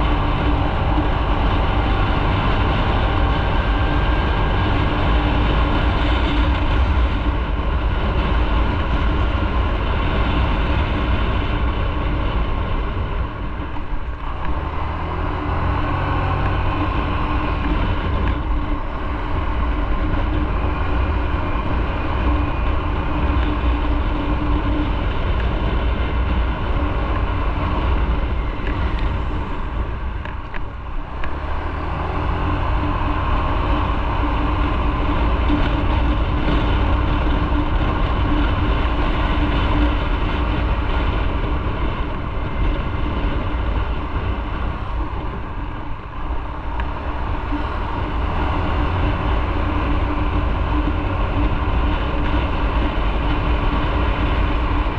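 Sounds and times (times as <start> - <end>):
motorcycle engine running: 0.0 - 54.9
wind rumble: 0.0 - 54.9.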